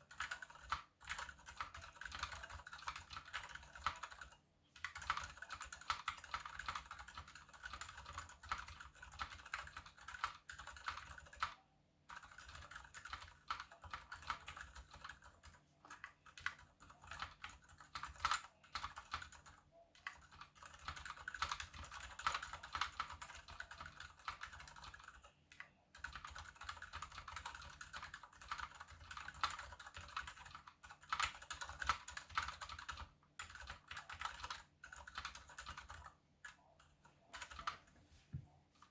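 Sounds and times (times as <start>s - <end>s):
typing on mechanical keyboard: 0.0s - 37.9s.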